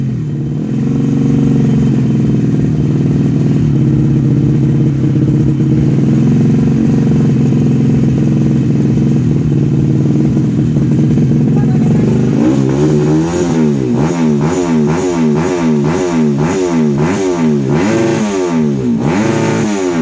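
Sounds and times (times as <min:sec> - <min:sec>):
racing motorcycle engine running: 0:00.0 - 0:20.0.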